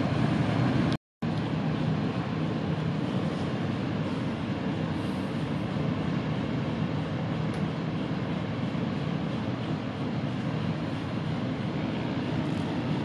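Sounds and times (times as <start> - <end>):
barge engine rumbling: 0.0 - 13.0.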